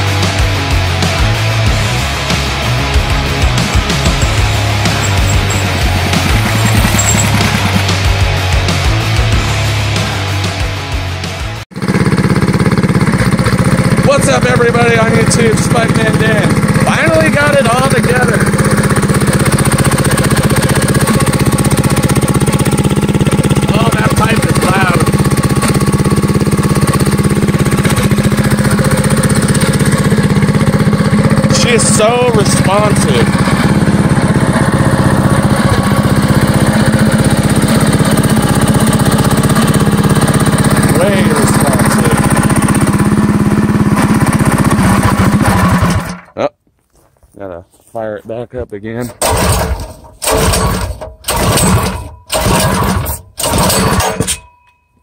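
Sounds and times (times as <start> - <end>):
minibike engine idling: 0.0 - 8.9, 11.8 - 46.4, 49.1 - 54.2.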